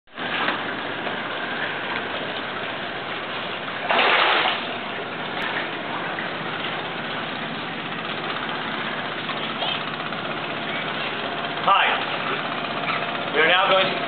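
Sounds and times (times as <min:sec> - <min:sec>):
rushing water: 0:00.1 - 0:14.0.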